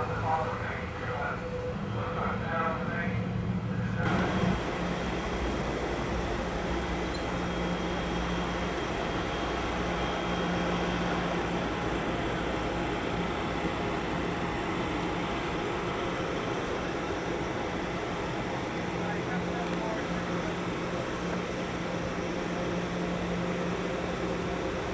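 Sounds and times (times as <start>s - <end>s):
train rumbling: 0.0s - 24.9s
low diesel hum: 4.0s - 24.9s.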